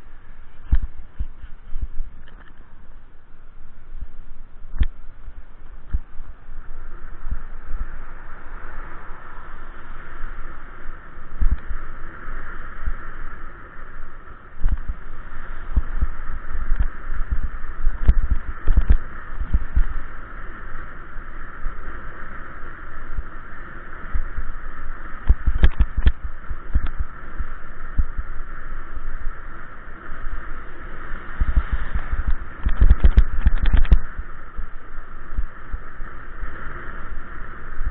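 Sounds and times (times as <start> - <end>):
road noise hiss: 0.0 - 37.9
wind buffeting microphone: 0.0 - 37.9.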